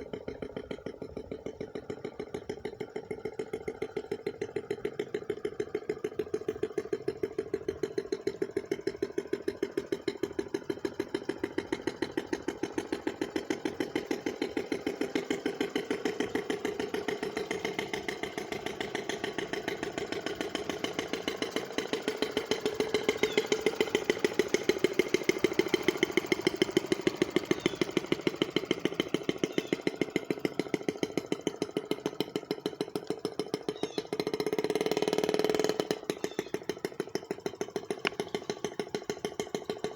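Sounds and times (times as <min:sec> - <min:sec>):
small two-stroke boat engine buzzing: 0:00.0 - 0:39.9.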